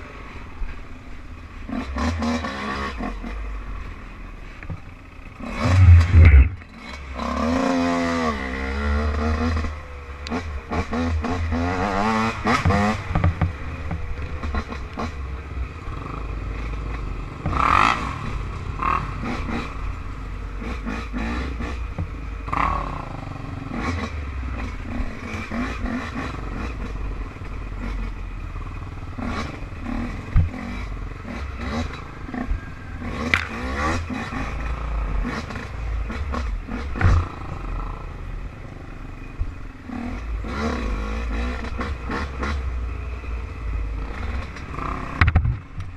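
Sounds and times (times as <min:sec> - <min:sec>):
off-road engine revving: 0:01.6 - 0:45.9.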